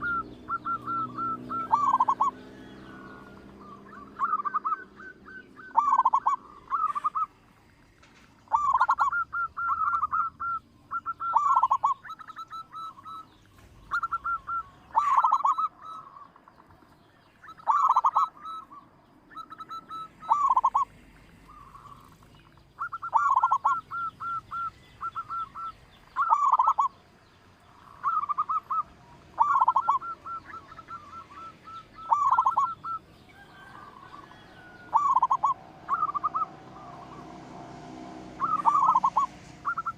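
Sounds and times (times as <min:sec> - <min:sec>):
dove cooing: 0:00.0 - 0:16.5, 0:17.4 - 0:27.0, 0:27.6 - 0:39.9.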